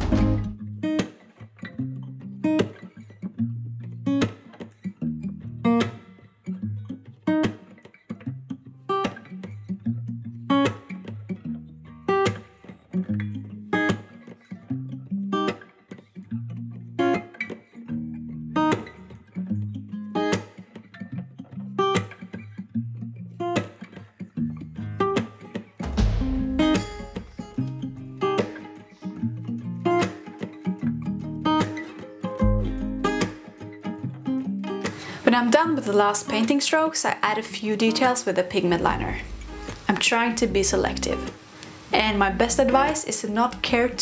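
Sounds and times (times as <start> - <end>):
plucked acoustic guitar music: 0.0 - 44.0.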